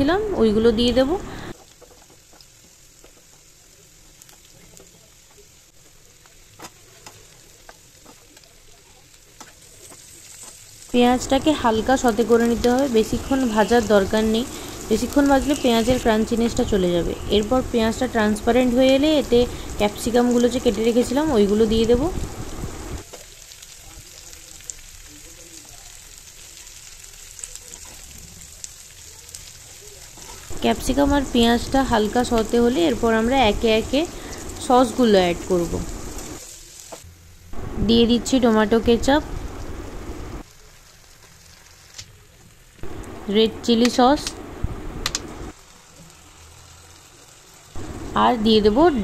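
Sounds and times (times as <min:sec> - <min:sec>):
onions sizzling in oil: 0:00.0 - 0:49.0.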